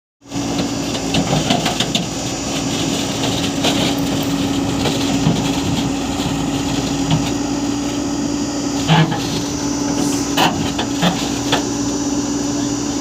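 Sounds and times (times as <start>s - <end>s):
diesel engine running: 0.2s - 13.0s.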